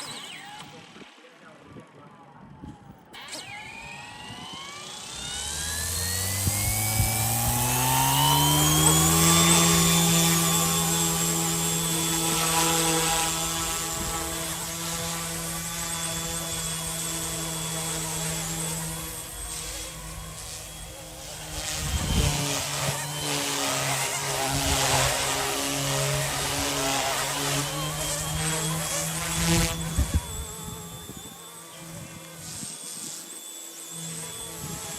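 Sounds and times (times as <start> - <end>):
rc helicopter motor whine: 0.0 - 34.9.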